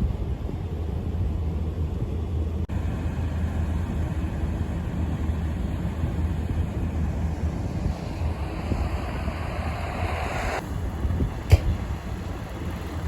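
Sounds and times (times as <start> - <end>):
large vehicle engine rumble: 0.0 - 13.0.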